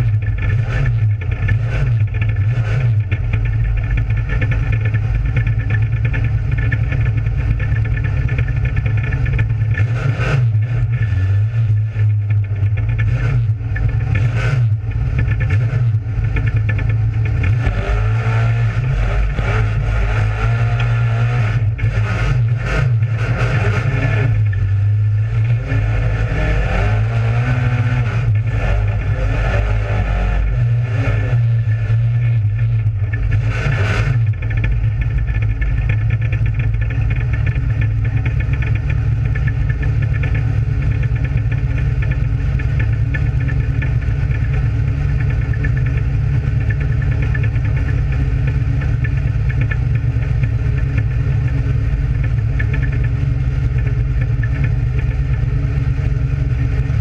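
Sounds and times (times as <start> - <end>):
race car engine low drone: 0.0 - 57.0.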